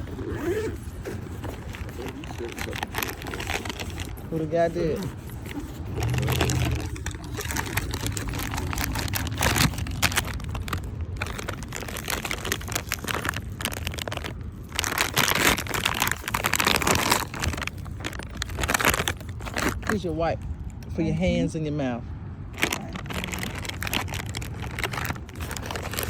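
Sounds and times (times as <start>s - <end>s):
bag rustling: 0.0s - 20.4s, 22.5s - 26.0s
plastic packaging crinkling: 0.0s - 20.8s, 22.6s - 26.0s.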